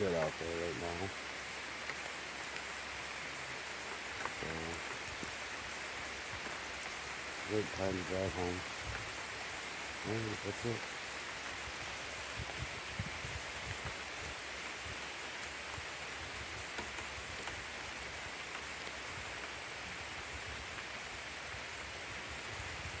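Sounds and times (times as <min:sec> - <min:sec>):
steady rain hissing: 0:00.0 - 0:23.0.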